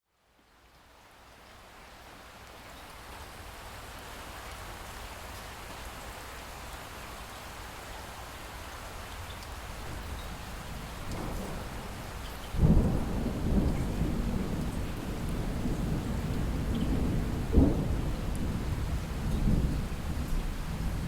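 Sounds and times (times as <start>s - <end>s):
light rain patter: 0.0s - 21.0s.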